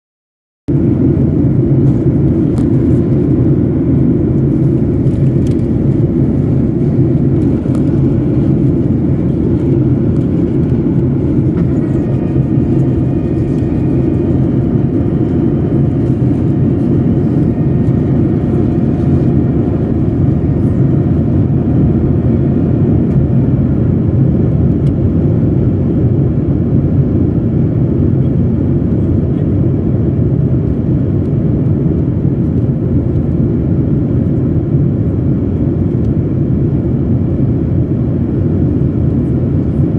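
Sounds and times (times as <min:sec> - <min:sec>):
airliner cabin rumble: 0:00.7 - 0:39.9.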